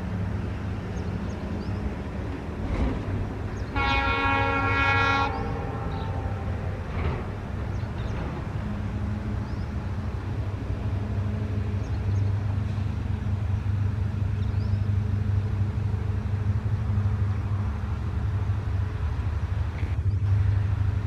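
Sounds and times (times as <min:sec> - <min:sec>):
diesel locomotive engine droning: 0:00.0 - 0:21.0.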